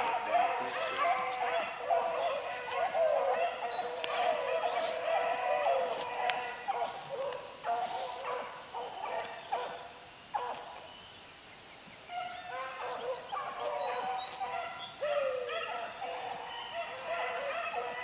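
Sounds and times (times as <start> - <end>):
hounds baying: 0.0 - 10.8, 12.1 - 18.0.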